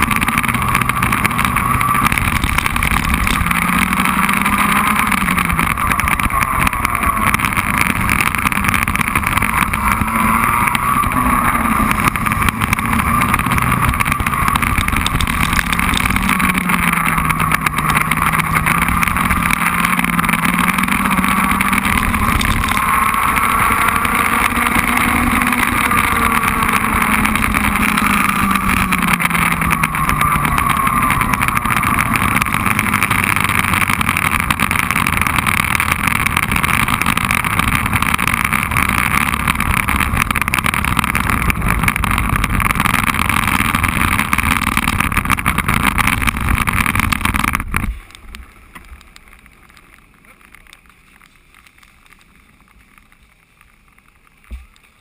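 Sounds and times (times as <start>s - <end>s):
wind noise on microphone: 0.0s - 49.2s
kart engine: 0.0s - 50.7s.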